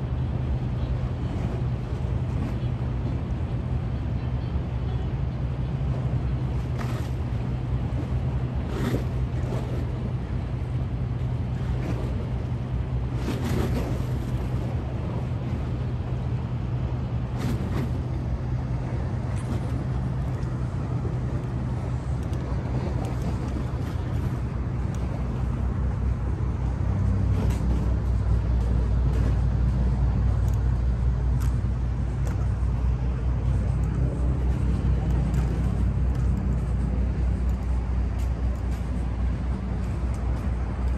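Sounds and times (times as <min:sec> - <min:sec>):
ferry engine hum: 0:00.0 - 0:40.9.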